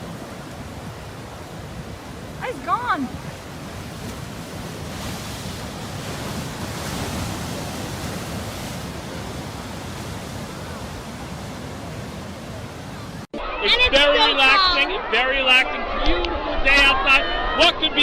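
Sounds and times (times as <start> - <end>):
wave crashing and washing: 0.0 - 18.0.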